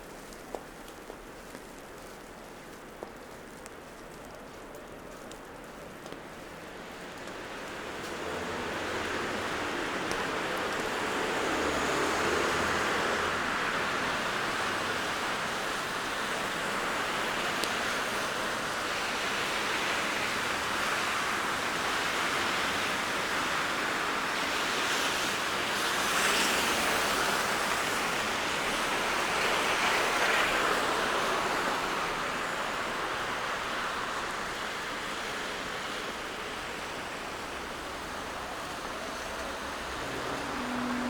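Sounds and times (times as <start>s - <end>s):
traffic hiss on snowy streets: 0.0s - 41.0s
vehicles passing: 6.9s - 41.0s.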